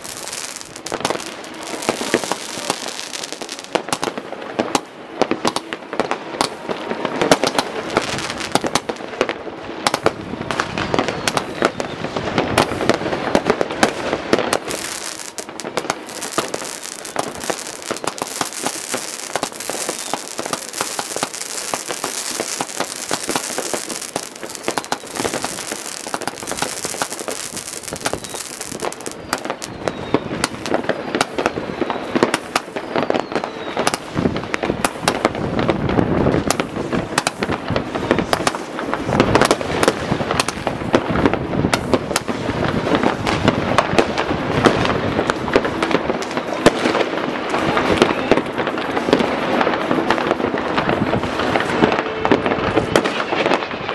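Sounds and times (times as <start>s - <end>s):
firecrackers crackling: 0.0s - 53.9s.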